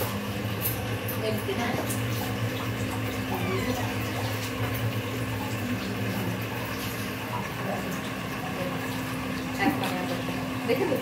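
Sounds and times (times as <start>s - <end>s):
steady low motor hum: 0.0s - 11.0s.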